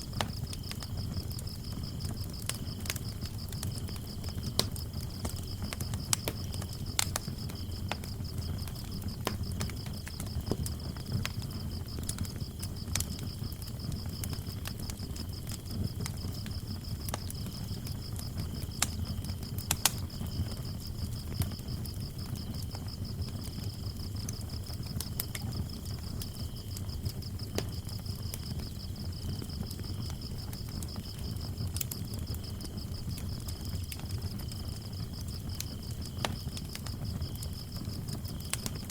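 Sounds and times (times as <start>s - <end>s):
crickets chirping: 0.0s - 38.9s
wood fire crackling: 0.0s - 38.9s.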